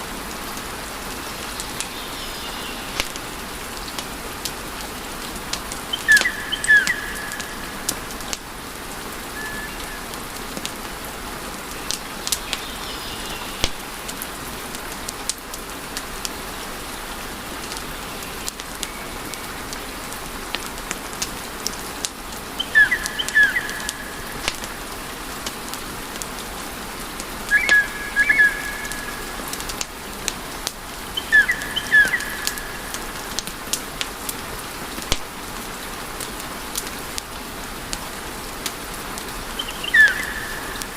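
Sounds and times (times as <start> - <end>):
wood fire crackling: 2.8 - 16.7, 18.4 - 40.9.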